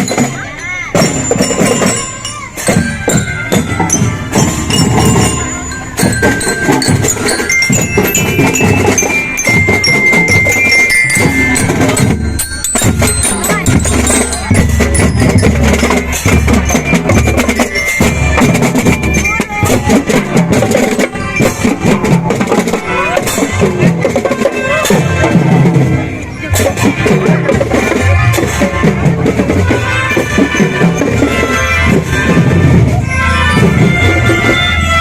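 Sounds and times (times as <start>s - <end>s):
rapid drum strikes: 0.0s - 34.8s
glockenspiel melody: 0.0s - 35.0s.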